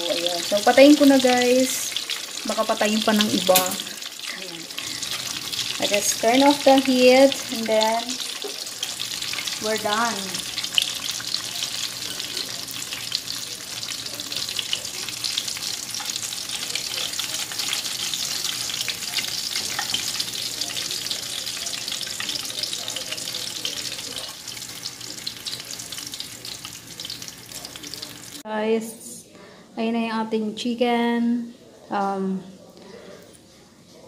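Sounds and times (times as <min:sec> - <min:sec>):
chicken sizzling in hot oil: 0:00.0 - 0:28.4.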